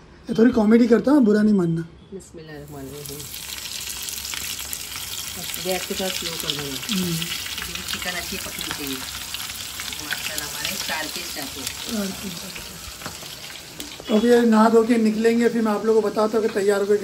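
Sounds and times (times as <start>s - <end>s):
chicken sizzling in hot oil: 2.6s - 17.0s.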